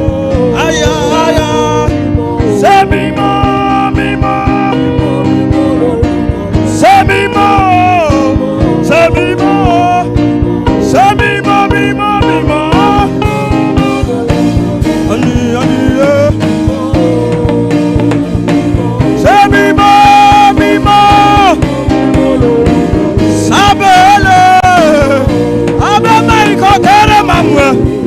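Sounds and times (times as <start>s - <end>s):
guitar and band accompaniment: 0.0s - 28.0s
person singing long notes: 0.0s - 28.0s.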